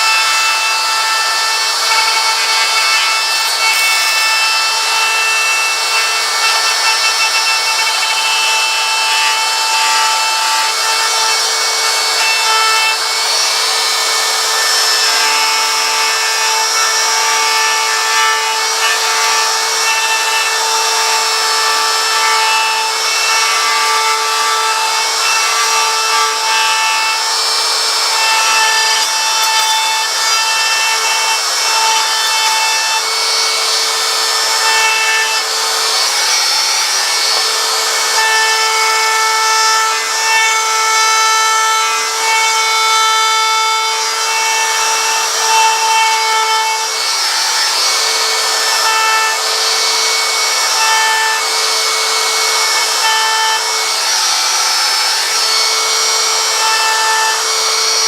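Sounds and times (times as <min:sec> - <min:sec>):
electric router cutting wood: 0:00.0 - 0:58.0.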